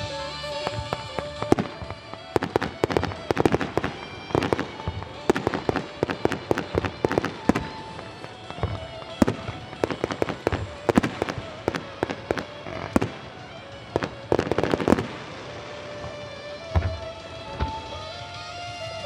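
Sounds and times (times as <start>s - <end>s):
firework shells bangs: 0.0s - 19.0s.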